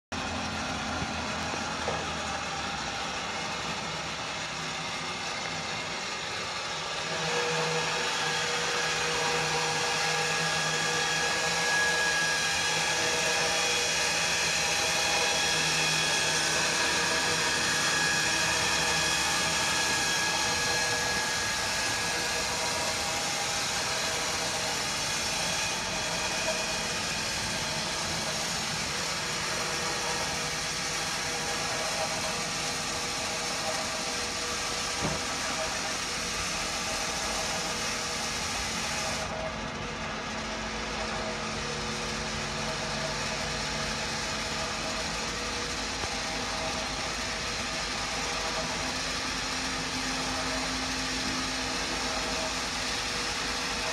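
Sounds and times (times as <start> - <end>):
motorcycle loader motor whirring: 0.2 - 53.9.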